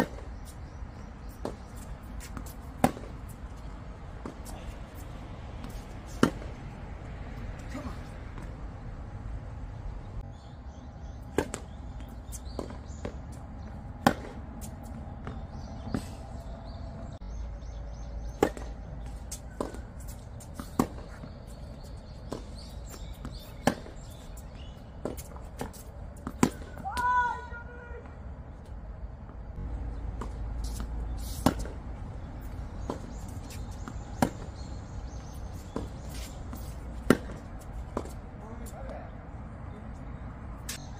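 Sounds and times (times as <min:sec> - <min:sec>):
tennis balls struck by rackets: 0:00.0 - 0:08.8, 0:10.2 - 0:16.5, 0:17.2 - 0:27.3, 0:29.4 - 0:39.1.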